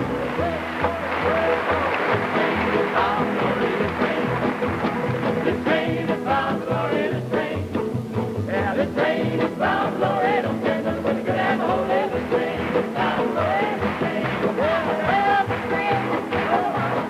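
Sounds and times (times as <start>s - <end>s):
folk ensemble singing and playing: 0.0s - 17.0s.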